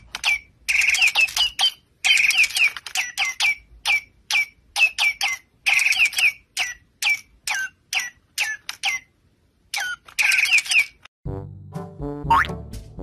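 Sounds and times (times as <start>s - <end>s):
toy bird chirping: 0.0s - 11.1s.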